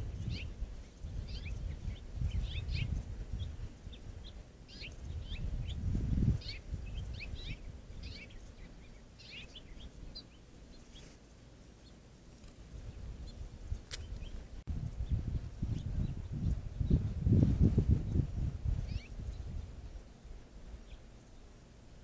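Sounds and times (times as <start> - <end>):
birds chirping: 0.0 - 22.0
low uneven rumble: 0.0 - 22.0.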